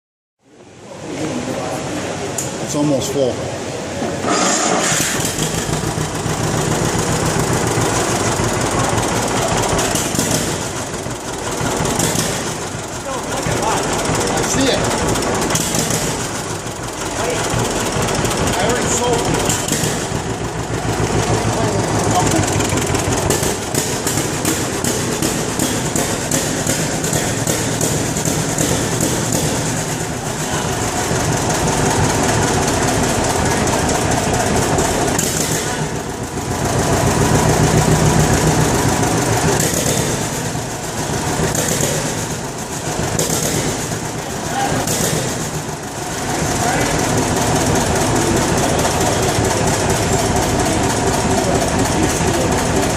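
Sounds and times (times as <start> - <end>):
two-cylinder tractor engine running: 1.8 - 52.9.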